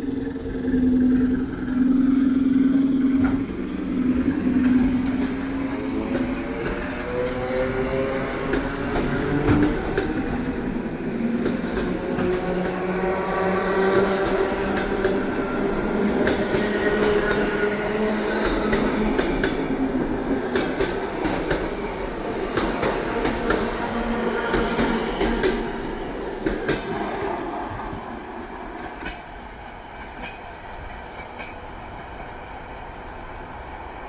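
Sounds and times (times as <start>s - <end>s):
train motors humming: 0.0s - 34.0s.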